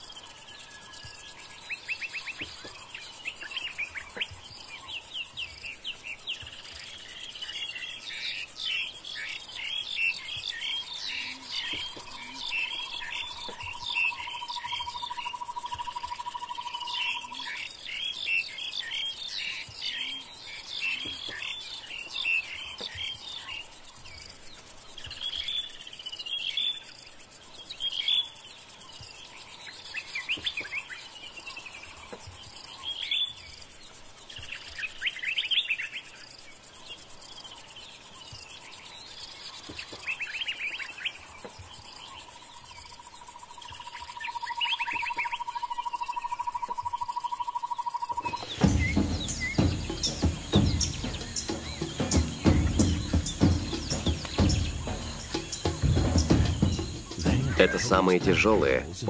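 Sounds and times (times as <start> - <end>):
birds chirping: 0.0 - 59.0
insects trilling: 0.0 - 59.0.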